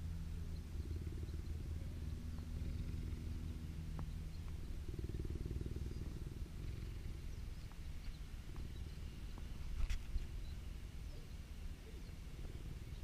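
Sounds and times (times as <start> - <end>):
cheetah purring: 0.6 - 13.0.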